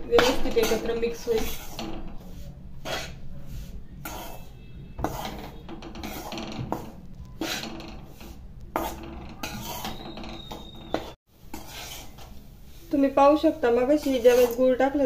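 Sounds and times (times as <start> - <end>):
metal spatula scraping steel pan: 0.0 - 15.0.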